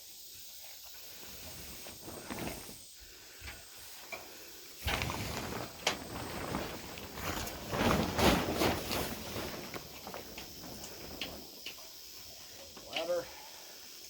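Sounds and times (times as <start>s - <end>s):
rope rustling: 1.0s - 12.6s.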